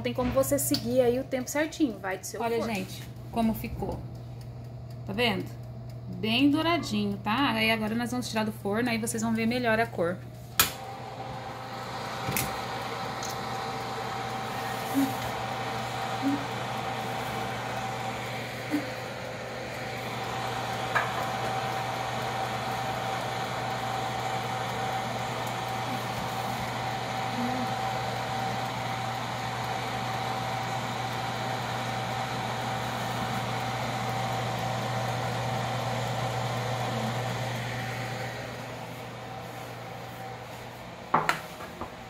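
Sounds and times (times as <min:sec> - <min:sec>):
oven fan humming: 0:00.0 - 0:42.0.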